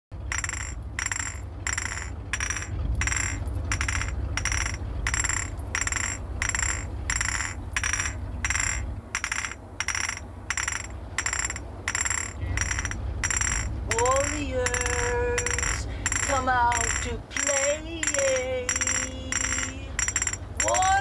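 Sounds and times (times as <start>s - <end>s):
high ringing hit: 0.3s - 21.0s.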